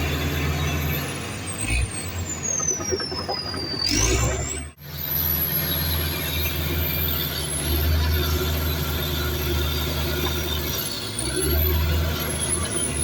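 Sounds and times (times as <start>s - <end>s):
heavy diesel machine running: 0.0s - 13.0s.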